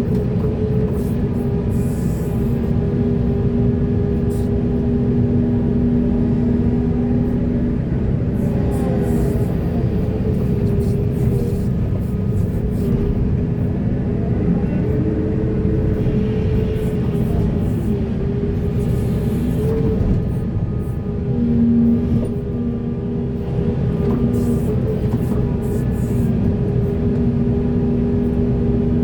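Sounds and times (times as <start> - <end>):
heavy machinery engine rumble: 0.0 - 29.0.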